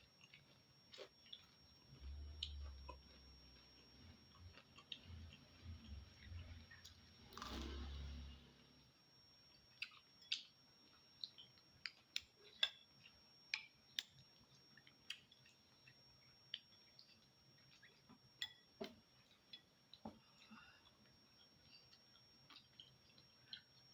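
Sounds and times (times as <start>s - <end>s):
faint eating sounds: 0.0s - 23.9s.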